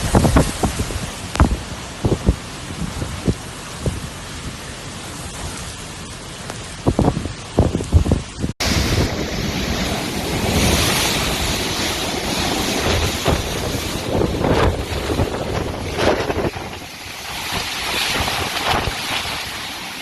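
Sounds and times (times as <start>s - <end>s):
heavy rain: 0.0s - 20.0s
wind buffeting microphone: 0.0s - 20.0s.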